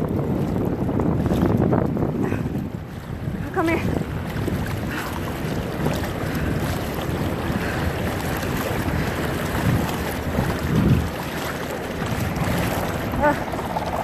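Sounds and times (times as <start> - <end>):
water sloshing as person wades: 0.0 - 14.0
wind rumbling on microphone: 0.0 - 14.0.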